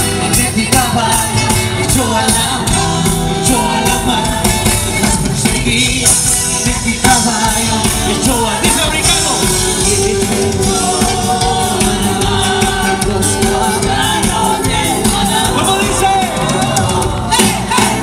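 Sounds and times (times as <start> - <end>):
voices singing along: 0.0 - 18.0
worship band playing with drums: 0.0 - 18.0.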